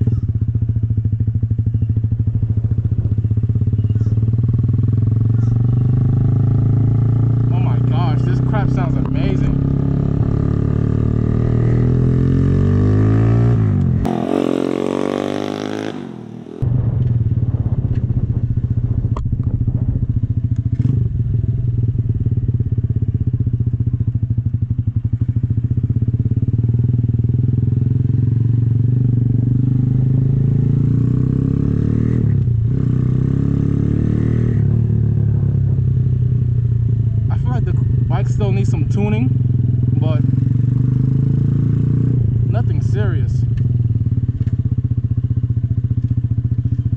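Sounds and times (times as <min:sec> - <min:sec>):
loud motorcycle exhaust: 0:00.0 - 0:46.9.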